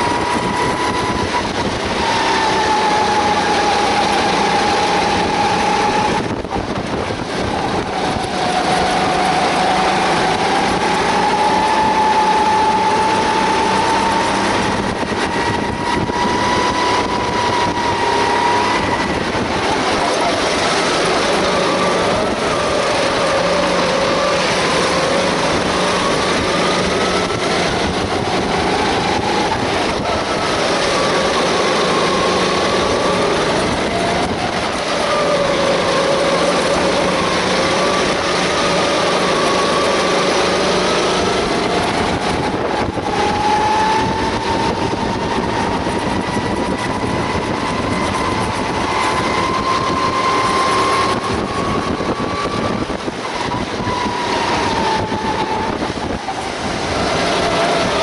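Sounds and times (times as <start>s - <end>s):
kart engine at racing speed: 0.0s - 58.0s
wind noise: 0.0s - 58.0s.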